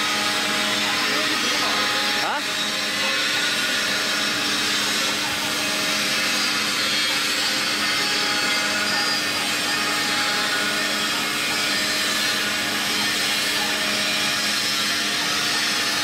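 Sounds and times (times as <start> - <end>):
router spindle whirring: 0.0 - 16.0.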